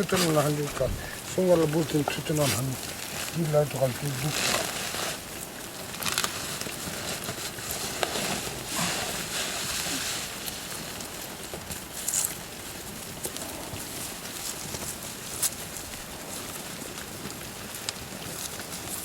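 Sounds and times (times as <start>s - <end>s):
steady hiss: 0.0s - 17.1s
sheep hooves shuffling: 0.0s - 19.0s.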